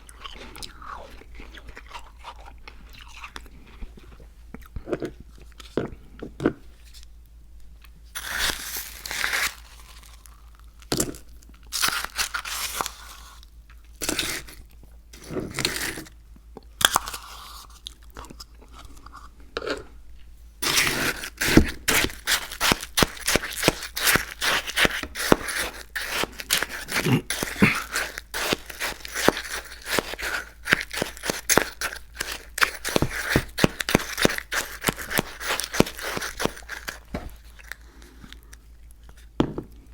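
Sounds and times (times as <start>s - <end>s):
crunching cookies: 0.0s - 7.1s, 7.8s - 39.9s.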